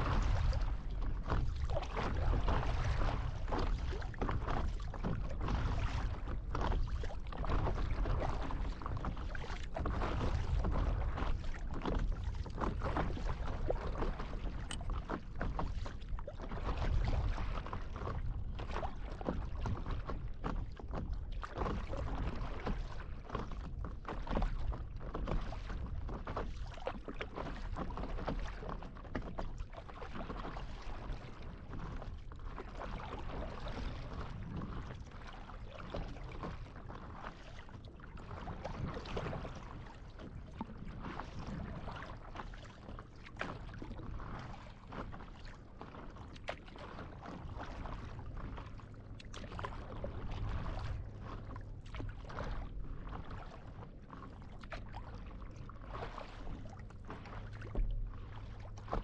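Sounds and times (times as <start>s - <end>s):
sea water lapping and sloshing: 0.0s - 59.0s
small water splashes: 0.0s - 59.0s.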